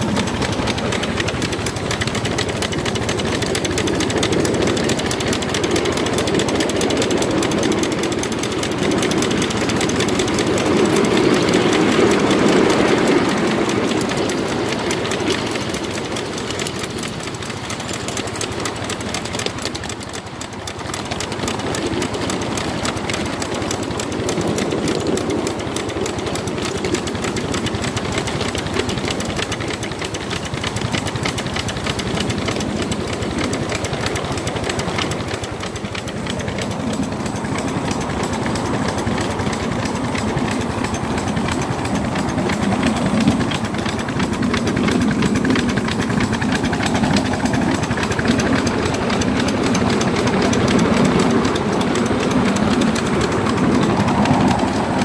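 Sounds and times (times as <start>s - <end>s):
miniature steam locomotive running: 0.0s - 55.0s.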